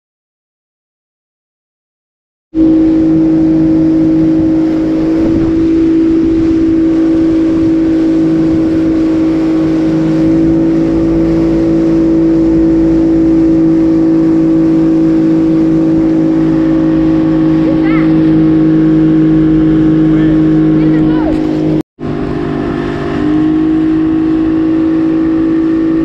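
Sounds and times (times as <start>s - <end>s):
outboard motor droning: 2.6s - 26.0s.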